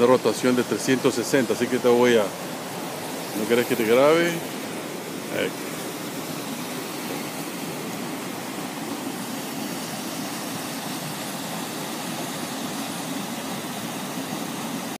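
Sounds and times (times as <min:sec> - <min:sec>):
mountain stream rushing over rocks: 0:00.0 - 0:15.0.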